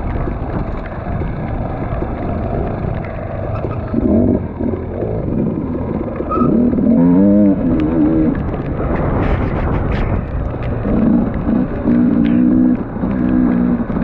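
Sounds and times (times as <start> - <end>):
wind rumble: 0.0 - 14.0
dirt bike engine revving: 1.1 - 14.0.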